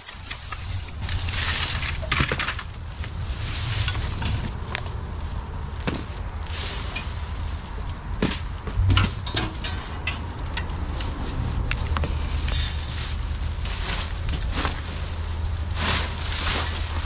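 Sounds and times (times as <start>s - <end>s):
dry leaves and twigs crunching: 0.0s - 17.0s.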